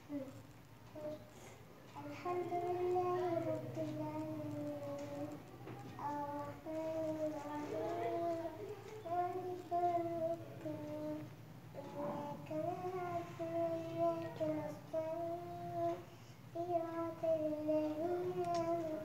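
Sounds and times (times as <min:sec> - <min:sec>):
girl chanting a prayer: 0:02.0 - 0:19.0.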